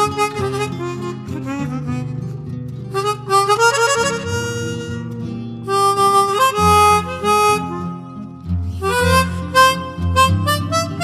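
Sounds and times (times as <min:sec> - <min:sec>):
harmonica melody: 0:00.0 - 0:11.0.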